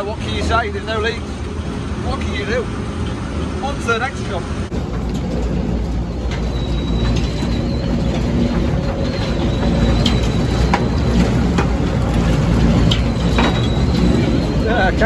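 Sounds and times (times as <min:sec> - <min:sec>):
machine low rumble: 0:00.0 - 0:15.0
squeaking bearing squeal: 0:02.0 - 0:15.0.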